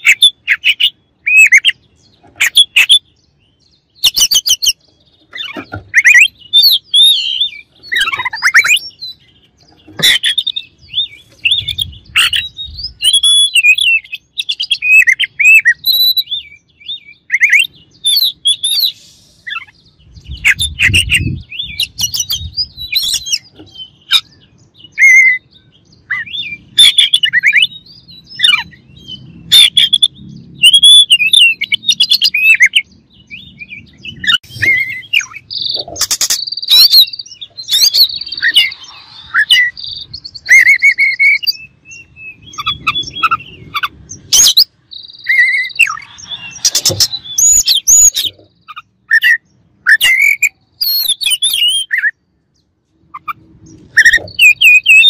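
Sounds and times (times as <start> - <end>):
bird singing whistled phrases: 0.0 - 1.8, 5.9 - 9.2, 10.0 - 52.2, 53.9 - 55.0.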